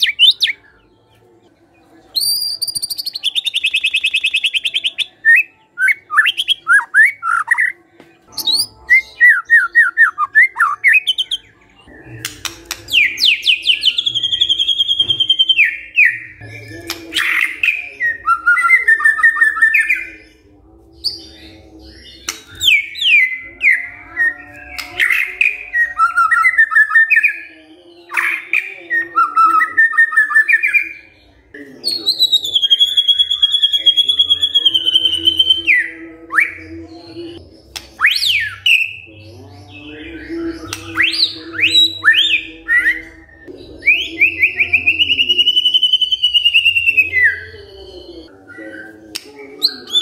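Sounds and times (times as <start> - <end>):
songbird whistling and chattering: 0.0 - 0.8, 2.1 - 20.4, 21.0 - 31.2, 31.8 - 50.0.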